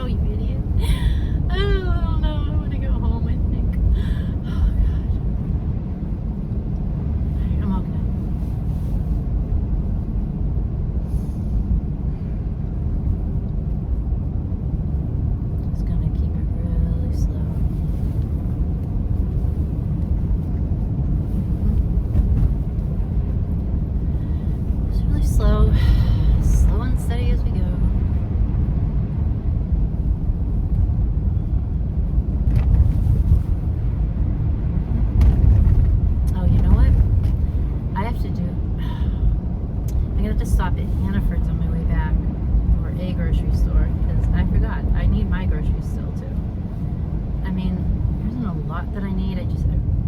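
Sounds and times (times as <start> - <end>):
car engine and tyres rumbling: 0.0 - 50.0.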